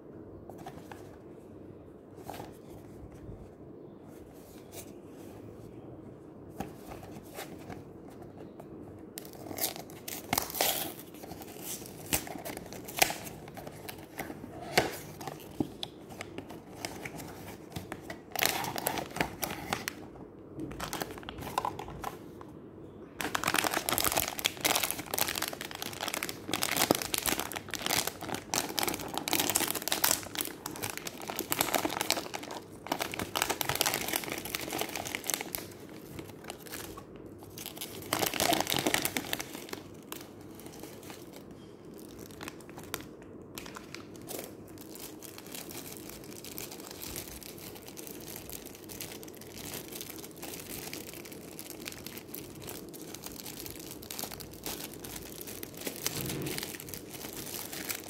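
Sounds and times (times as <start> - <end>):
plastic wrapper crinkling: 9.2 - 22.4, 23.1 - 58.0.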